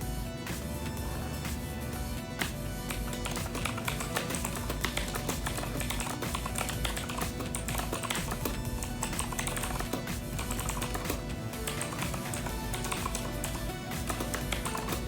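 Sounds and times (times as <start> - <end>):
background music: 0.0 - 15.0
fast mechanical keyboard typing: 2.8 - 15.0.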